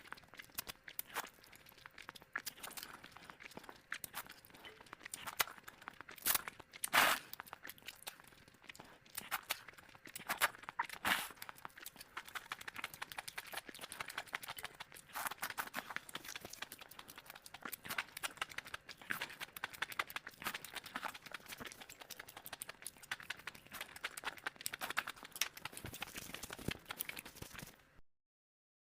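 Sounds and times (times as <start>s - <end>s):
rapid chewing and smacking: 0.0s - 28.0s.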